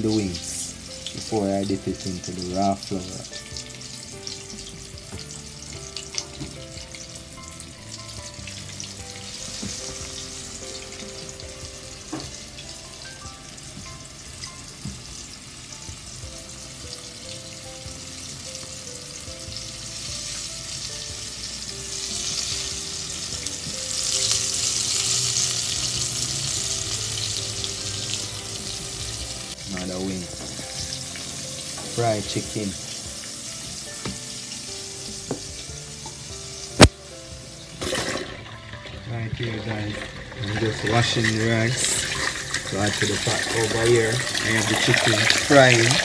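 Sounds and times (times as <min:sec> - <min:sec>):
chicken deep-frying in oil: 0:00.0 - 0:46.0.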